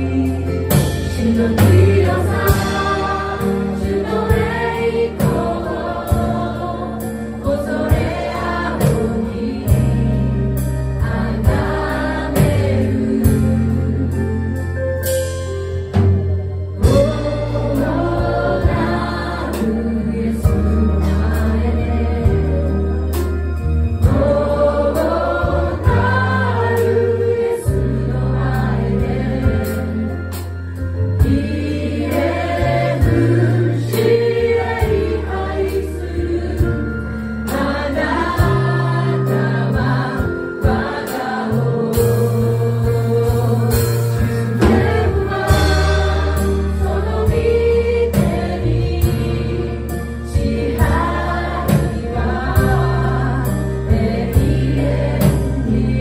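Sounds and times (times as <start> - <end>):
voices singing together: 0.0 - 14.4, 16.8 - 30.5, 31.1 - 56.0
drums: 0.0 - 56.0
keyboard: 0.0 - 56.0.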